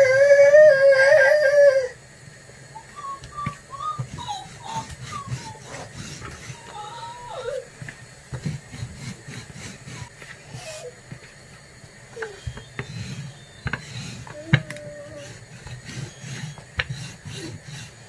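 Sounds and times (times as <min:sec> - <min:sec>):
rolling pin rolling dough: 0:02.9 - 0:18.0.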